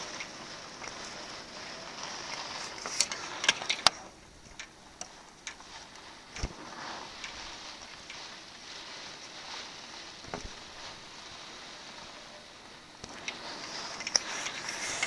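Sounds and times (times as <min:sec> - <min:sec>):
wind and rain hiss: 0:00.0 - 0:15.0.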